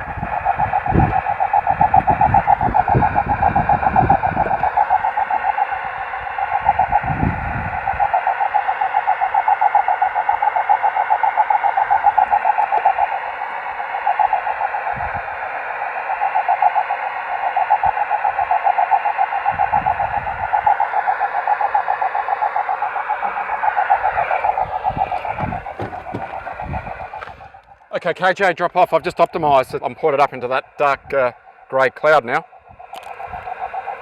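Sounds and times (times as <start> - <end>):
fluttering radio carrier tone: 0.0 - 34.0
receiver hiss: 0.0 - 34.0.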